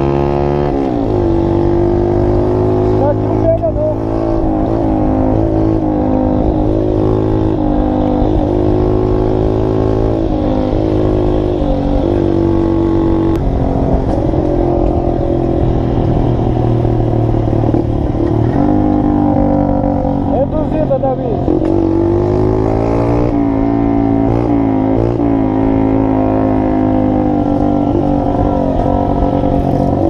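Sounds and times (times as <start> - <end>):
small motorcycle engine running: 0.0 - 30.0.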